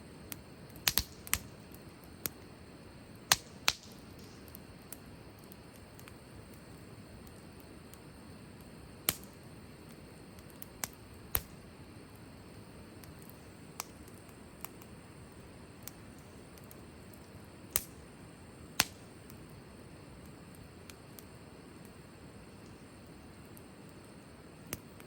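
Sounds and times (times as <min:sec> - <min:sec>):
fire hissing: 0:00.0 - 0:25.0
wood fire popping: 0:00.2 - 0:25.0.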